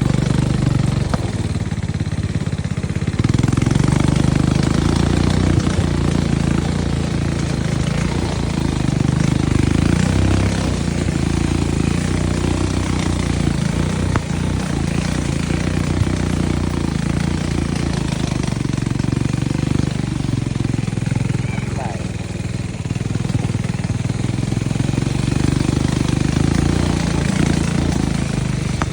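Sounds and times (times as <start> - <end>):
atv engine rumbling: 0.0 - 28.9.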